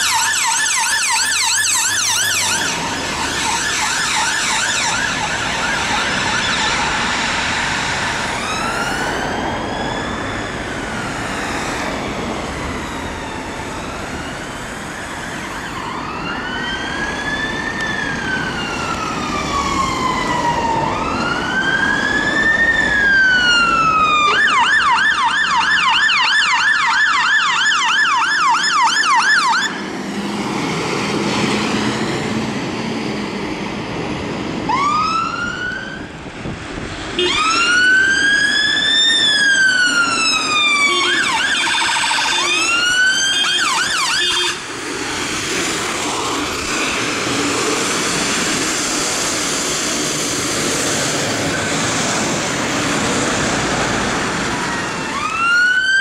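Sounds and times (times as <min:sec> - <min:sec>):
electronic sirens yelping and wailing: 0:00.0 - 0:31.8, 0:34.7 - 0:36.3, 0:37.1 - 0:56.0.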